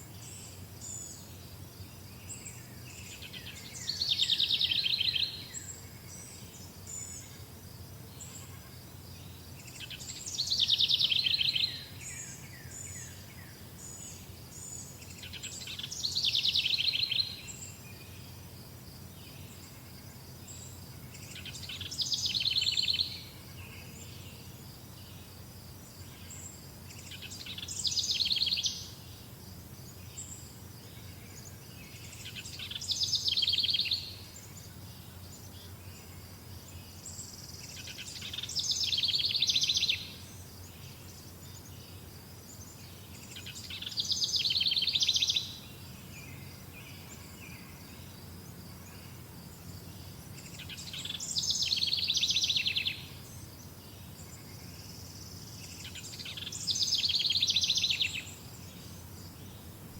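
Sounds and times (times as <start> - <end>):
faint insect chirring: 0.0 - 59.9.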